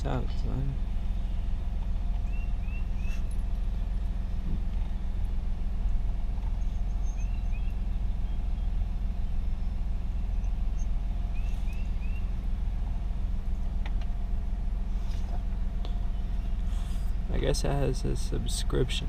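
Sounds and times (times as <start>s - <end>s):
engine idling low rumble: 0.0s - 19.0s.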